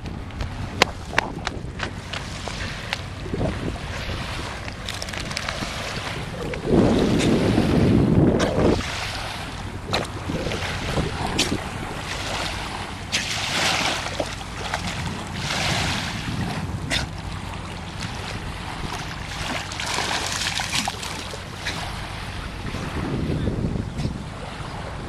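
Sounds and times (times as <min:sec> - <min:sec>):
water splashing and lapping: 0:00.0 - 0:25.0
wind rumbling on microphone: 0:00.0 - 0:25.0.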